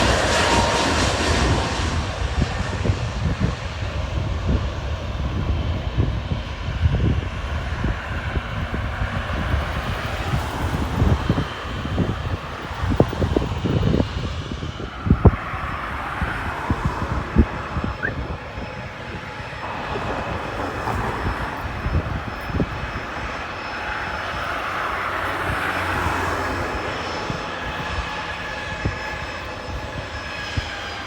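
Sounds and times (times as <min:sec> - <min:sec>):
jet engine noise with whine: 0:00.0 - 0:31.0.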